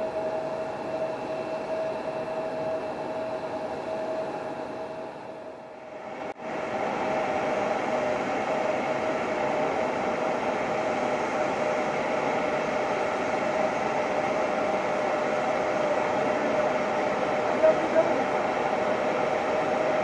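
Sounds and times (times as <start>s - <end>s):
jet engines idling: 0.0s - 20.0s.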